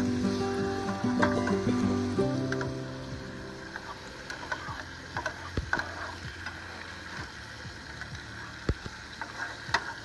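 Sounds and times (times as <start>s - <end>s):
camp stove hiss and hum: 0.0s - 10.0s.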